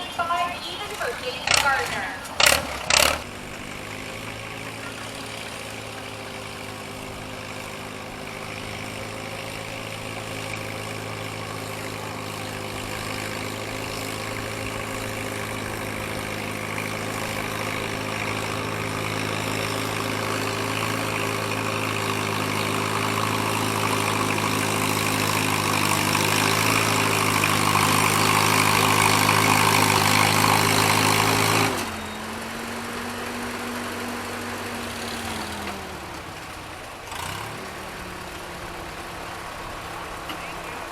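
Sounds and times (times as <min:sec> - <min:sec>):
tractor engine pulling hard: 0:00.0 - 0:40.9.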